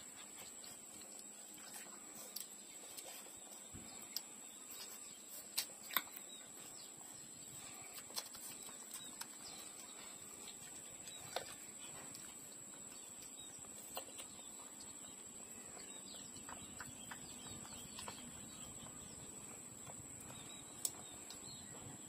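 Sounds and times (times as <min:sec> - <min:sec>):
puppies sucking and smacking: 0:00.0 - 0:22.0.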